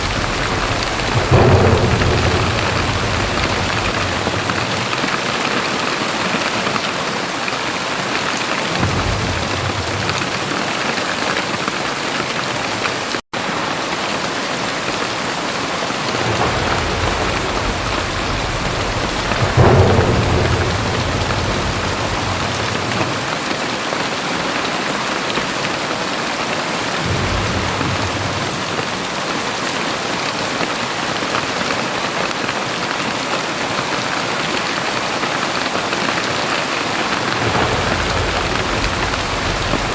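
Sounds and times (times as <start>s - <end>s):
thunder rumbling: 0.0s - 13.1s, 14.4s - 31.4s, 34.6s - 39.9s
heavy rain pouring: 0.0s - 39.9s.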